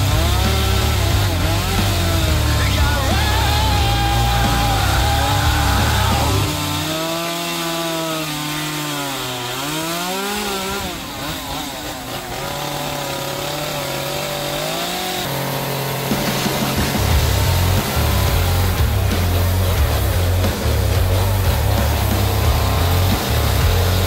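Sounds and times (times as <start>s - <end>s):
chainsaw carving wood: 0.0s - 24.0s.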